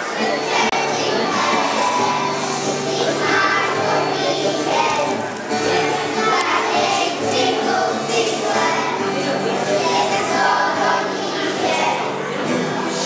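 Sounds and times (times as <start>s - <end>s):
acoustic guitar: 0.0s - 13.0s
children singing in unison: 0.0s - 13.0s.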